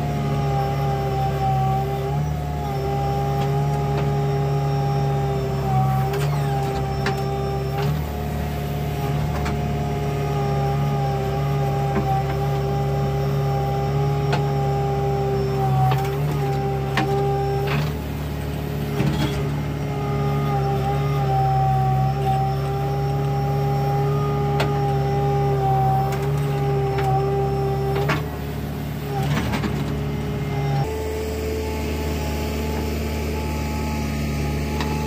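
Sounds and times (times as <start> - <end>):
diesel engine under load: 0.0 - 35.0
hydraulic whine: 0.0 - 35.0.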